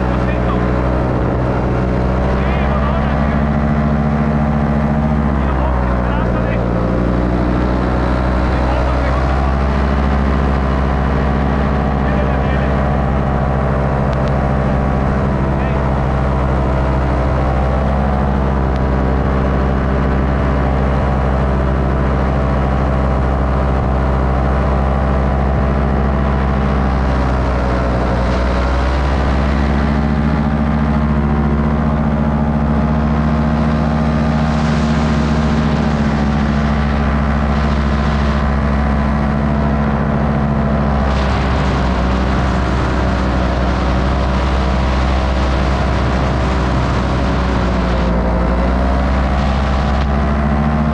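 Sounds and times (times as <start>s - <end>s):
paramotor engine and propeller: 0.0s - 50.9s
rush of wind: 0.0s - 50.9s.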